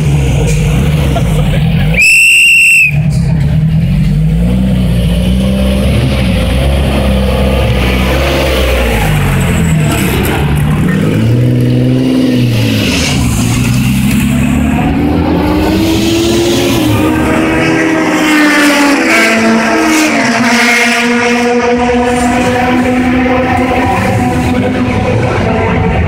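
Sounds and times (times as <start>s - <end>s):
racing car engines revving: 0.0s - 26.0s.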